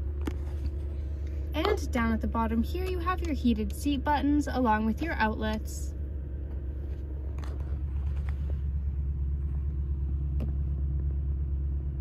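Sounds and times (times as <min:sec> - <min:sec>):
low rumble in truck cab: 0:00.0 - 0:12.0.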